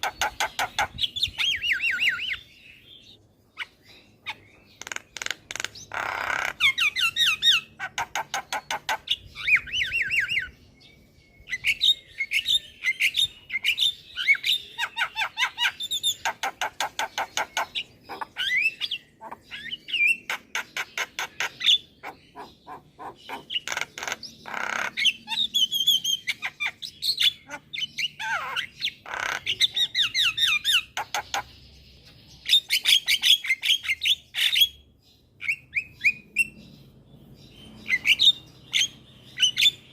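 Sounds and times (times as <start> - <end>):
bird song with clicks and whistles: 0.0 - 36.8, 37.6 - 39.9.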